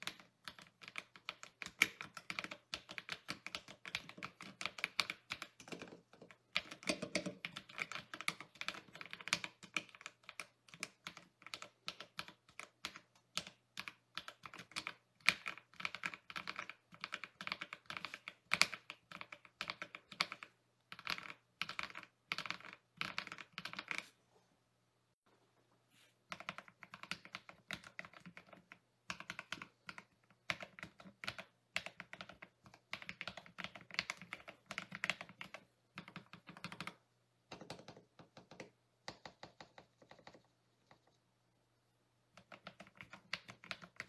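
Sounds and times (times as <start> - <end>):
mechanical keyboard typing: 0.0 - 24.0, 26.3 - 41.2, 42.3 - 44.0.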